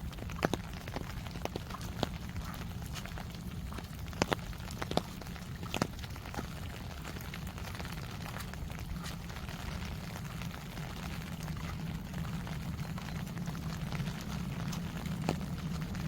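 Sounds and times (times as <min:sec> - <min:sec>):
low steady rumble: 0:00.0 - 0:16.0
sharp taps of raindrops: 0:00.0 - 0:16.0
steady rain: 0:00.0 - 0:16.0.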